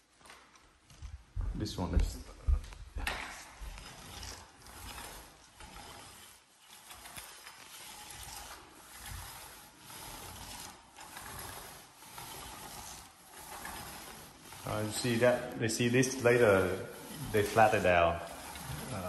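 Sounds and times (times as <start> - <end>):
paint roller rolling on floor: 0.0 - 19.0
roller frame rattling: 3.0 - 19.0.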